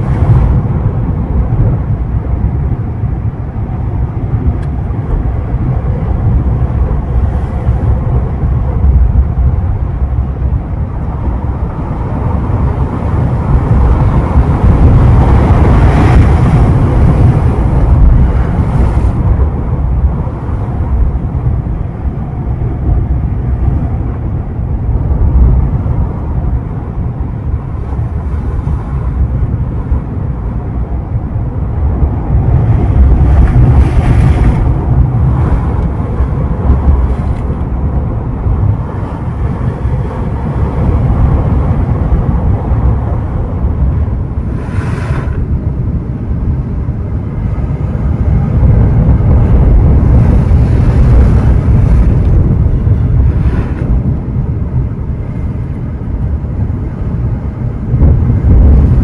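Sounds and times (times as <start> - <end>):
surf breaking on shore: 4.4 - 24.4, 25.2 - 59.0.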